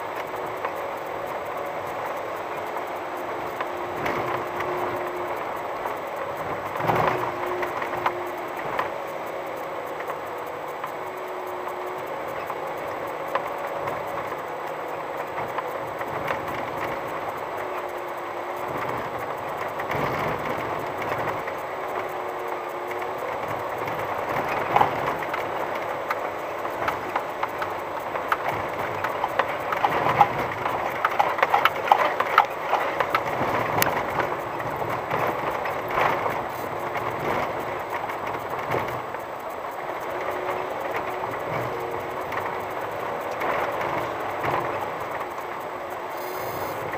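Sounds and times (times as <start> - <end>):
tyres rumbling on gravel: 0.0 - 46.9.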